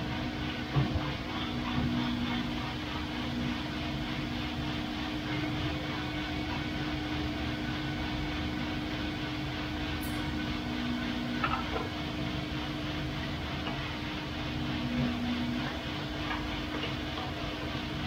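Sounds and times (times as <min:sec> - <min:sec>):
coffee roaster humming: 0:00.0 - 0:18.0.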